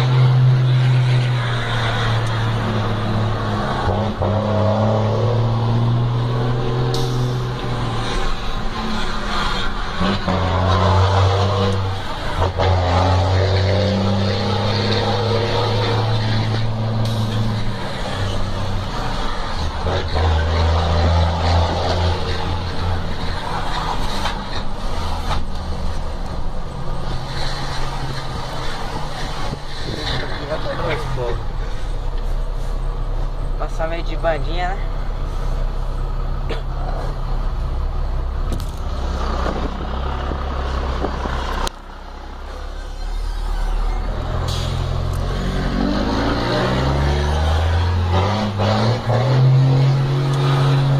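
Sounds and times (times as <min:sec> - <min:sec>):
road noise: 0:00.0 - 0:50.9
truck diesel engine: 0:00.0 - 0:50.9.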